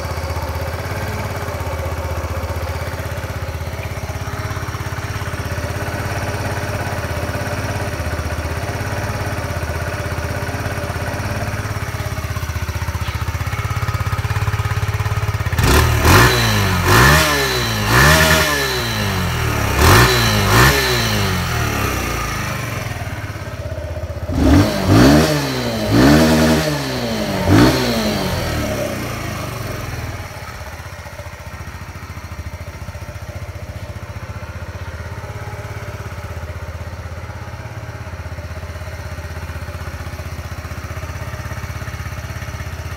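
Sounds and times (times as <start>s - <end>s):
motorcycle engine idling and revving: 0.0s - 42.9s.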